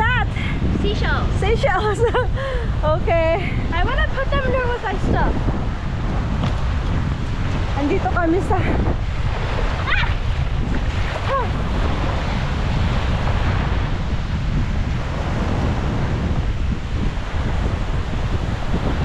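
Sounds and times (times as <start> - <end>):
waves washing onto beach: 0.0 - 19.0
wind buffeting microphone: 0.0 - 19.0.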